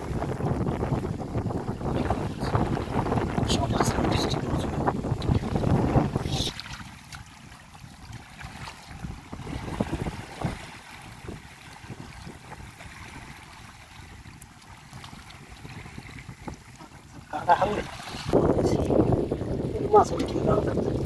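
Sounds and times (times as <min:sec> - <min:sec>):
water splashing and trickling: 0:00.0 - 0:21.0
wind rumble on microphone: 0:00.0 - 0:21.0.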